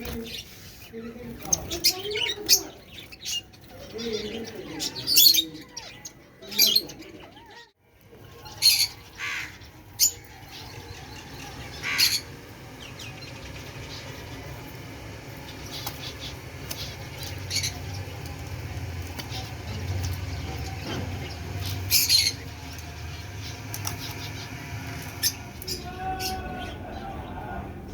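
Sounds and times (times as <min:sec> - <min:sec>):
pet birds squawking: 0:00.0 - 0:27.9.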